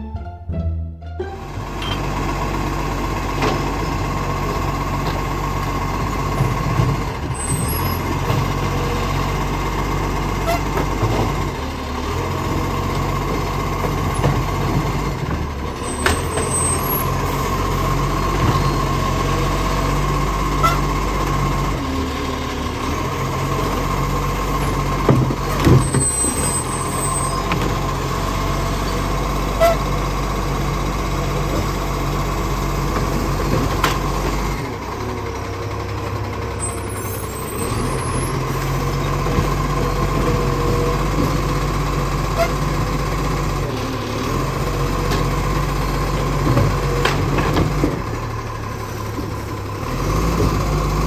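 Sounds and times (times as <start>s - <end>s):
garbage truck diesel hum: 0.0s - 51.0s.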